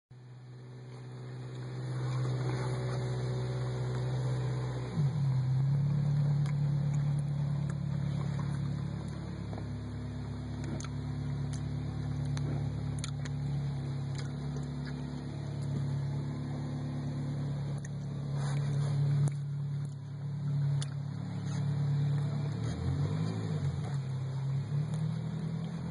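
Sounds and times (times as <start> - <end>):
low motor hum: 0.1 - 25.9.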